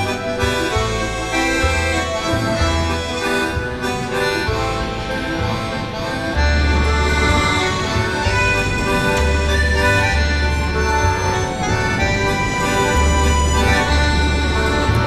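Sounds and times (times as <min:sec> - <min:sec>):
music with held notes and deep bass: 0:00.0 - 0:15.0.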